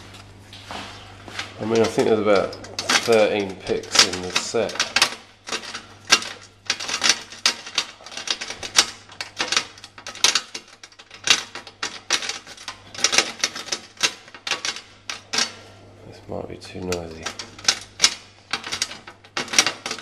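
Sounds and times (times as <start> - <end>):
lock rake clicking and rattling: 1.6 - 15.6, 16.7 - 20.0.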